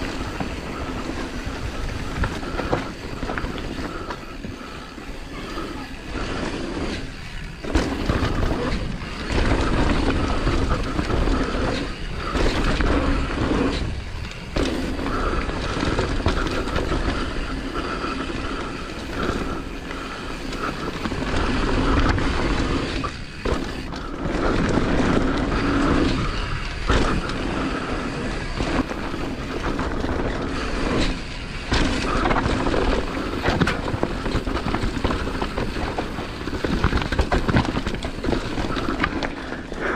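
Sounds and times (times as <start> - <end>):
bike rattling: 0.0 - 39.9
bike tyres rumbling over rocks: 0.0 - 39.9.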